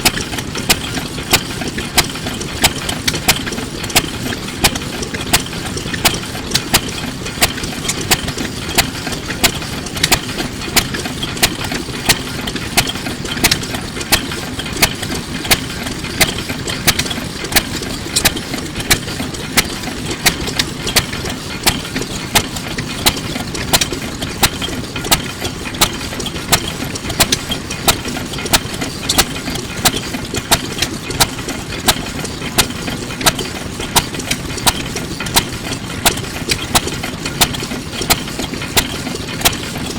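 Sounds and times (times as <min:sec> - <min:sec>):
stationary engine chugging: 0:00.0 - 0:39.9.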